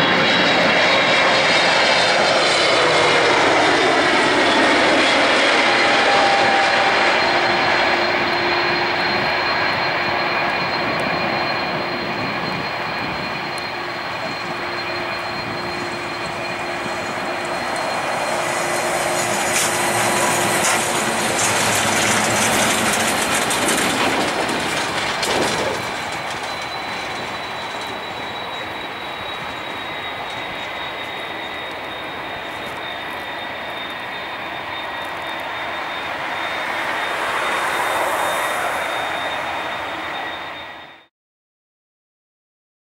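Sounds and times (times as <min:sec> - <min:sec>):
jet engines roaring: 0:00.0 - 0:41.1.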